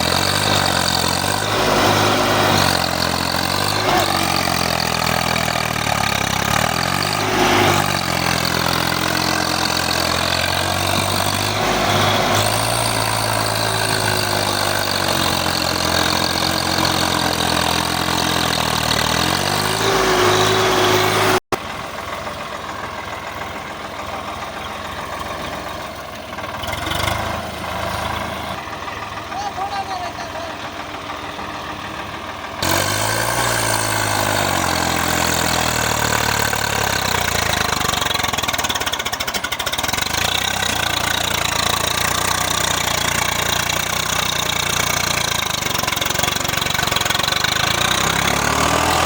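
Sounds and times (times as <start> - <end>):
tractor diesel engine revving: 0.0 - 49.0.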